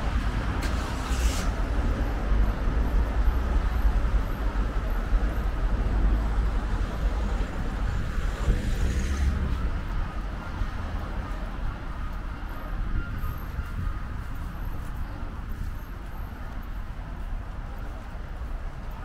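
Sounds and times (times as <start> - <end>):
cars moving and idling: 0.0 - 19.0.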